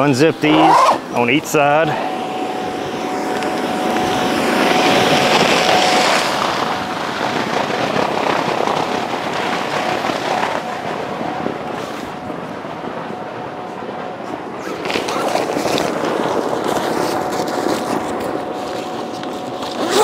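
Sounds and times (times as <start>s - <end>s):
blower humming: 0.0s - 20.0s.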